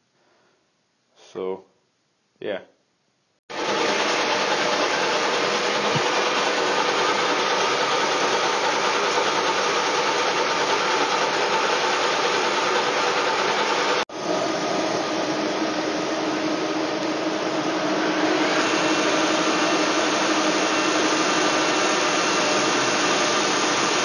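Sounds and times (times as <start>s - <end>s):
metal lathe cutting: 3.5s - 24.0s.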